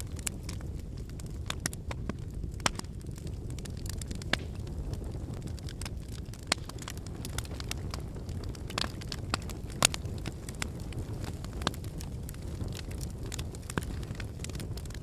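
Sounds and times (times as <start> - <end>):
firewood crackling and popping: 0.0 - 15.0
low rush of flame: 0.0 - 15.0.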